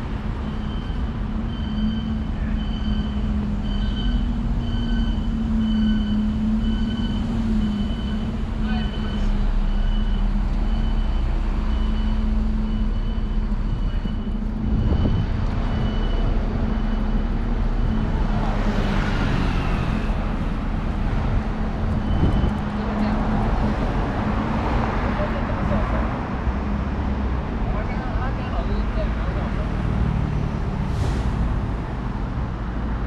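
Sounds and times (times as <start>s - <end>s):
traffic engine rumble: 0.0s - 33.0s.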